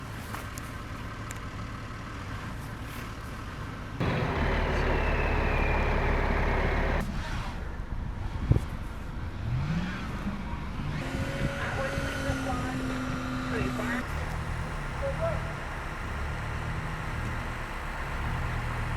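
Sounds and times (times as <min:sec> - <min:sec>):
vehicle engine rumbling: 0:00.8 - 0:18.9.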